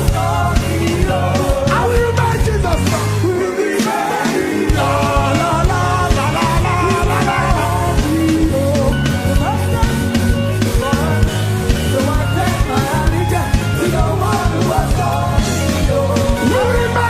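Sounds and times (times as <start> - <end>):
drum kit beat: 0.0 - 17.0
voices singing along: 0.0 - 17.0
worship band playing: 0.0 - 17.0.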